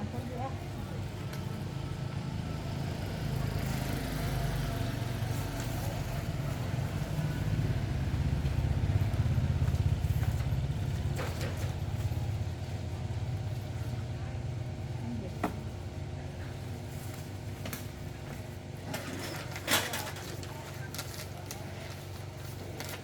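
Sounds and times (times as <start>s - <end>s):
vehicle engine low rumble: 0.0s - 19.6s.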